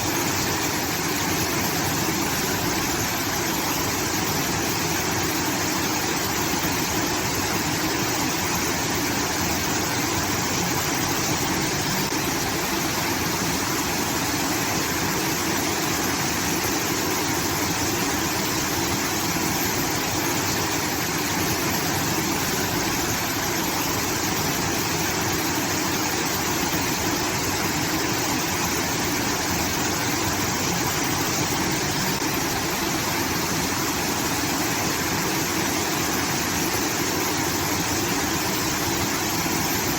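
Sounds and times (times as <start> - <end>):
water pouring and rushing: 0.0 - 39.9.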